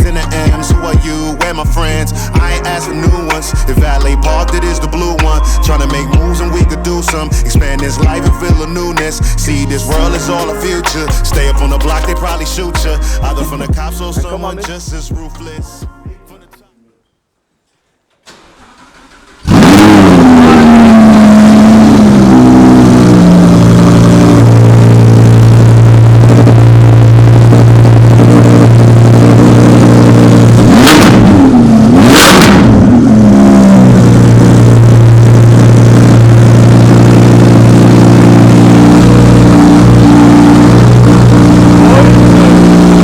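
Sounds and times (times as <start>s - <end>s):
car engine starting and idling: 0.0s - 16.6s, 18.2s - 43.0s
engine throttle blips: 0.0s - 16.6s, 18.3s - 43.0s.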